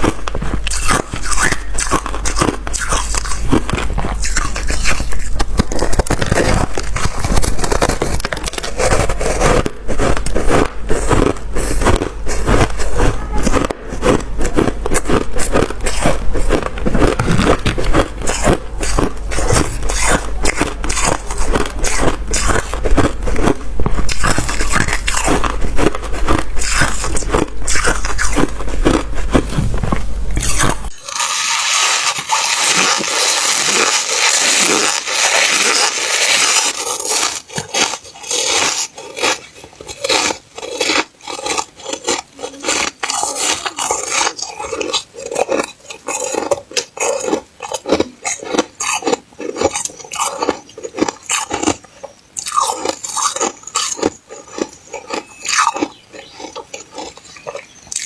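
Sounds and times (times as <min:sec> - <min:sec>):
chewing frost crunches: 0:00.0 - 0:58.0.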